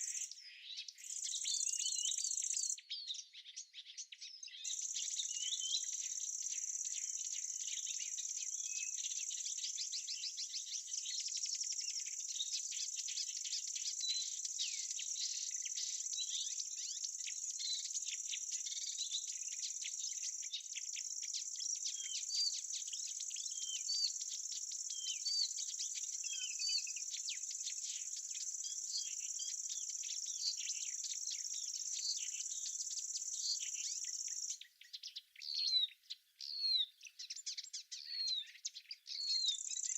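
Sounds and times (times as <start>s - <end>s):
birds chirping: 4.6s - 39.9s.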